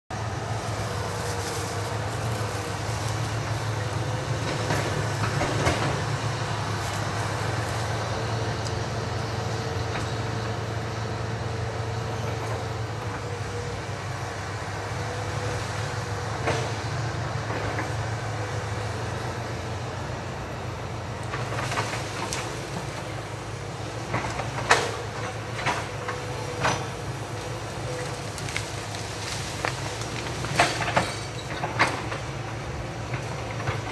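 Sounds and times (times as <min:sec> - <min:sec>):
distant excavator engine running: 0:00.1 - 0:33.9.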